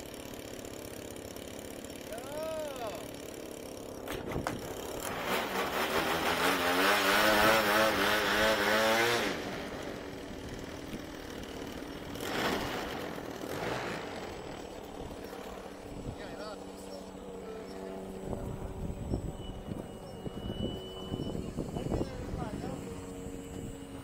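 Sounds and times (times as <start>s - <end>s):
model airplane motor buzzing: 0.0s - 24.0s.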